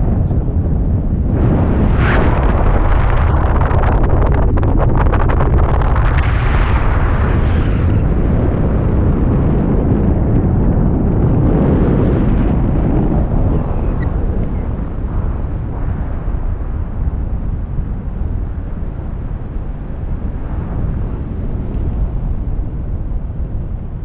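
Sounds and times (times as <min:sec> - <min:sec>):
rattling wind gusts: 0:00.0 - 0:24.0
wind noise on microphone: 0:00.0 - 0:24.0.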